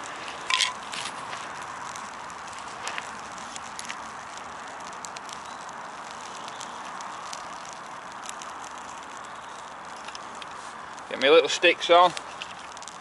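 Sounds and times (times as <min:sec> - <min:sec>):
fire crackling and popping: 0:00.0 - 0:13.0
steady hiss: 0:00.0 - 0:13.0.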